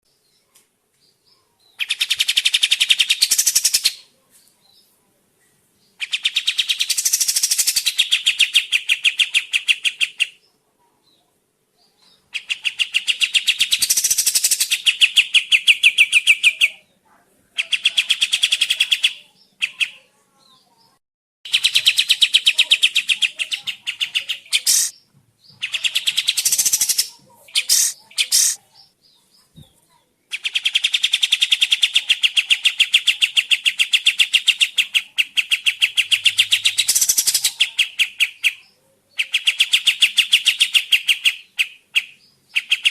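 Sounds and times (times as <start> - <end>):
bird chirping rapidly: 1.8 - 4.0, 6.0 - 10.4, 12.2 - 16.8, 17.6 - 20.0, 21.4 - 29.7, 30.3 - 42.9.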